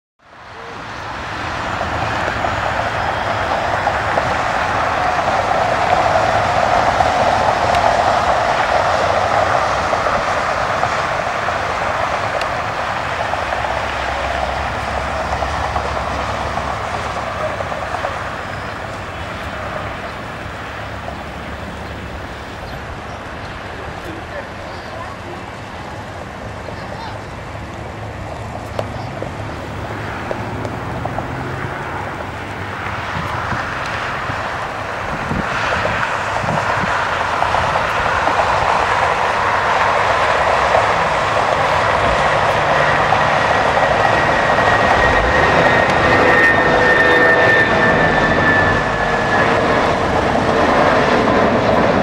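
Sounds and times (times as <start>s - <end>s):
jet engines roaring: 0.2s - 52.0s.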